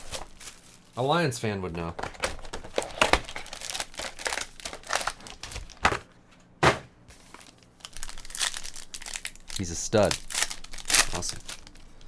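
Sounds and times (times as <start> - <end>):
card packaging crinkling: 0.0 - 1.0, 1.7 - 6.0, 7.1 - 12.0.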